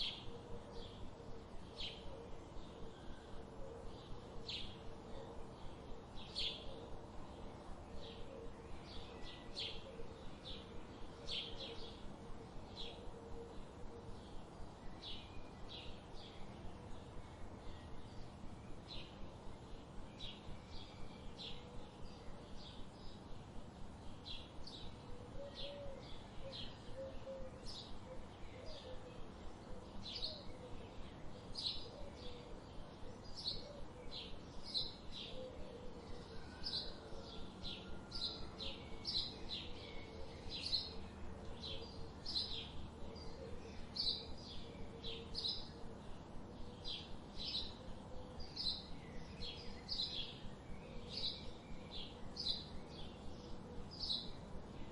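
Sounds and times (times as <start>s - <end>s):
low background hiss: 0.0s - 54.9s.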